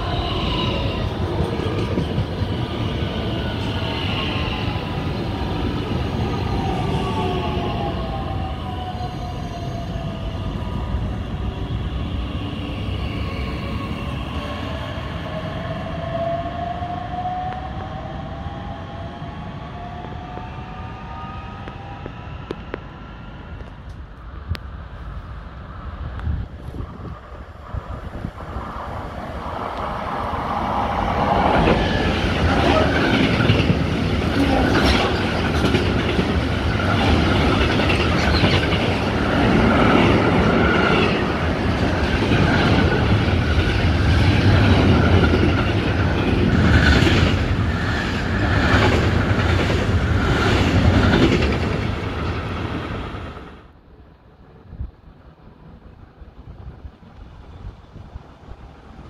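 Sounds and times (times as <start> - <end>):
freight train rumble: 0.0 - 59.0.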